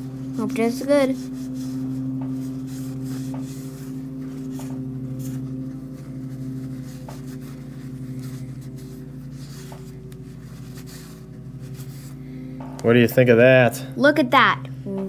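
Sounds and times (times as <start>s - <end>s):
low hum of held tones: 0.0s - 15.0s.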